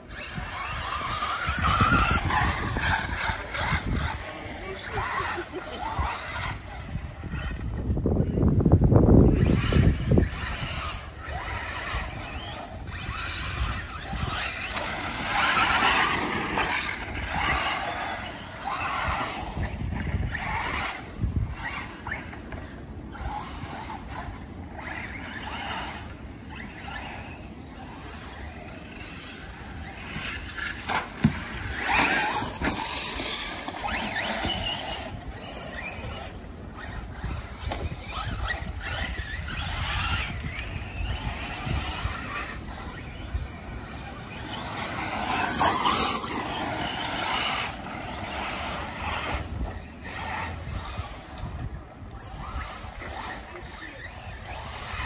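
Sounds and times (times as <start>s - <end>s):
radio-controlled car motors whining: 0.0s - 55.0s
tires scrabbling on dirt: 0.0s - 55.0s.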